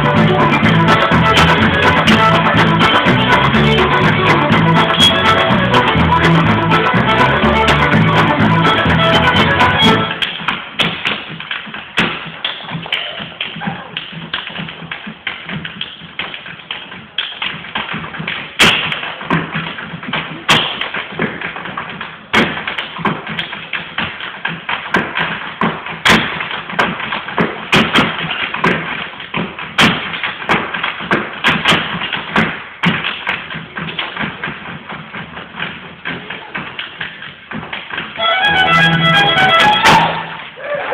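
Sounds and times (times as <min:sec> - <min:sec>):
step dancing foot taps: 0:00.0 - 0:40.4
loud foot stamps: 0:00.0 - 0:40.6.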